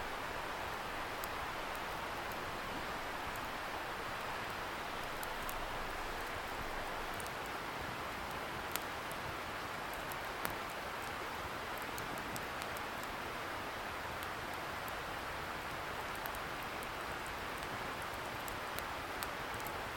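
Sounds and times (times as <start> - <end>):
bonfire crackling and popping: 0.0 - 19.9.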